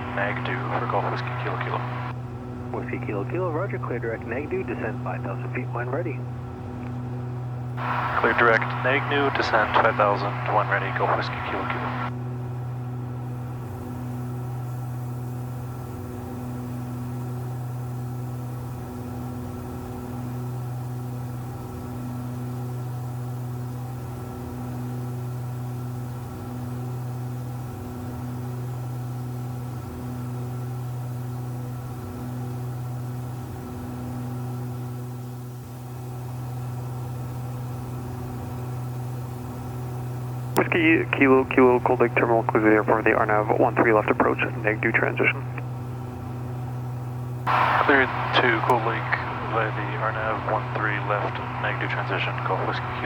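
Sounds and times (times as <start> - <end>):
airplane engines droning in cabin: 0.0 - 53.0.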